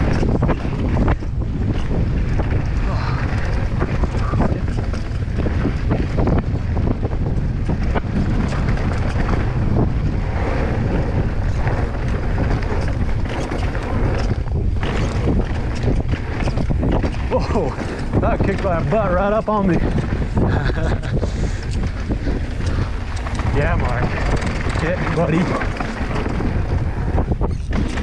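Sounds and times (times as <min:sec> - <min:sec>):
bike clattering over rough ground: 0:00.0 - 0:28.0
steady low rumble: 0:00.0 - 0:28.0
wind buffeting microphone: 0:00.0 - 0:28.0.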